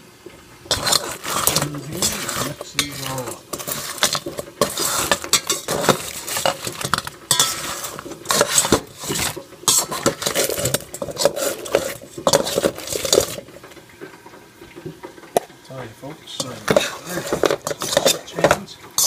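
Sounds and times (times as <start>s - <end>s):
spoon scraping a bowl: 0.7s - 13.4s, 16.5s - 19.0s.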